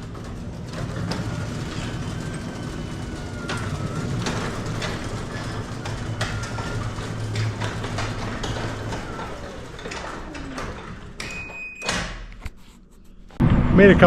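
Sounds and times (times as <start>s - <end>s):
clicks and rattles: 0.0s - 11.6s
garage door opener motor humming: 0.0s - 12.4s.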